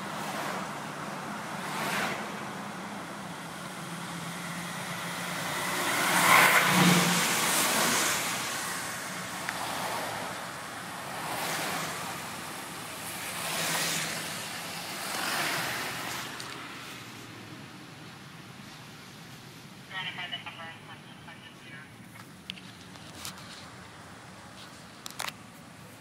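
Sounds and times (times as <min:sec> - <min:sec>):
road and tyre noise: 0:00.0 - 0:26.0.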